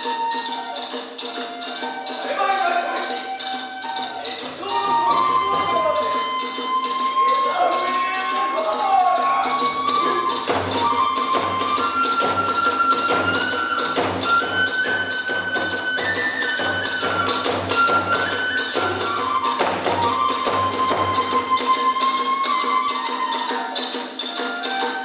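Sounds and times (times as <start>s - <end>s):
bamboo flute melody: 0.0s - 25.0s
small hand cymbals: 0.0s - 25.0s
steady drum beats: 1.4s - 22.5s.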